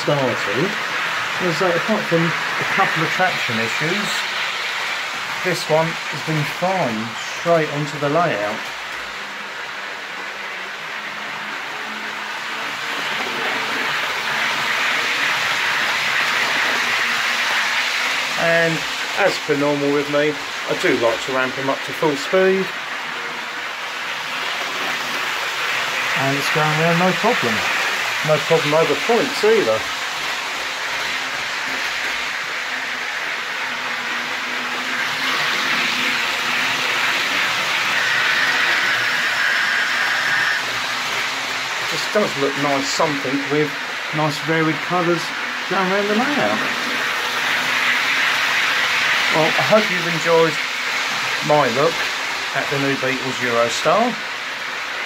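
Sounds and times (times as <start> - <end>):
model train whirring on rails: 0.0 - 55.0.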